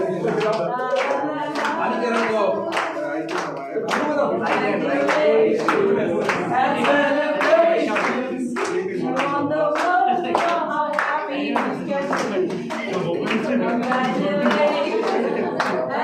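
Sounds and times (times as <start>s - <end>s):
group of people singing: 0.0s - 16.0s
people clapping: 0.0s - 16.0s.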